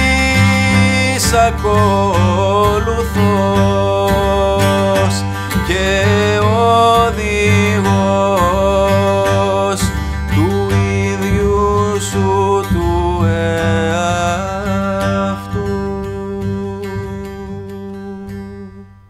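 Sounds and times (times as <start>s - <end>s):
pulsing low accompaniment: 0.0s - 18.8s
plucked strings: 0.0s - 19.0s
wavering held melody: 0.0s - 19.0s.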